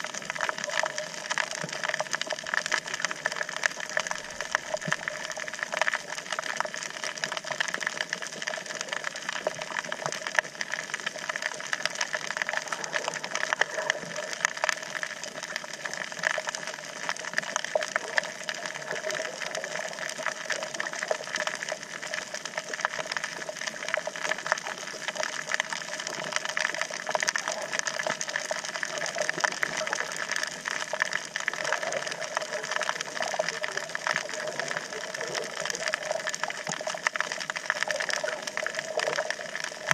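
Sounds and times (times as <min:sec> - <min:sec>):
underwater crackle of tiny clicks: 0:00.0 - 0:39.9.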